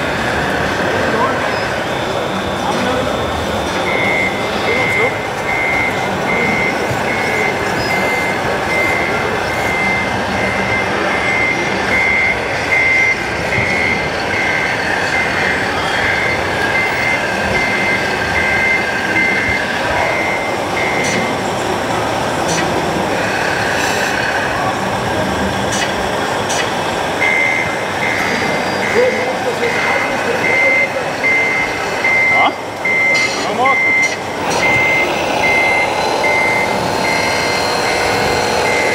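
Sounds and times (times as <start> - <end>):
murmur of crowd in hall: 0.0 - 38.9
reversing beeper: 1.0 - 21.6, 27.2 - 38.9.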